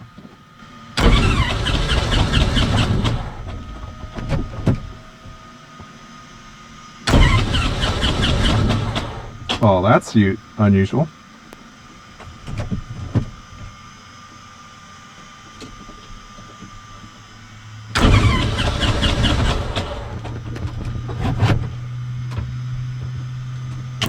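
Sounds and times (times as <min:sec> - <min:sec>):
starter cranking aircraft engine: 0:00.6 - 0:14.6, 0:15.2 - 0:24.0.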